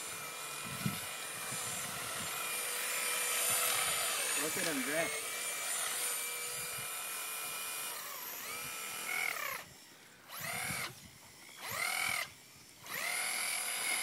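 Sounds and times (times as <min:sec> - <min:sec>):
rc truck motor whining: 0:00.0 - 0:14.0.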